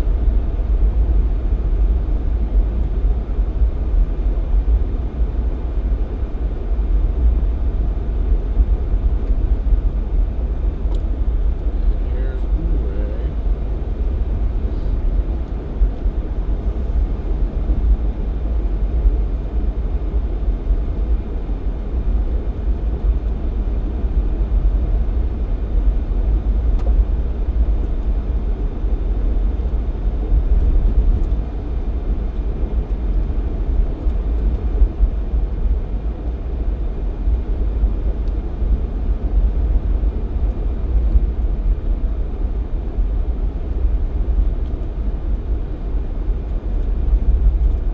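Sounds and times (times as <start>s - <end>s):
car driving low rumble: 0.0s - 47.9s.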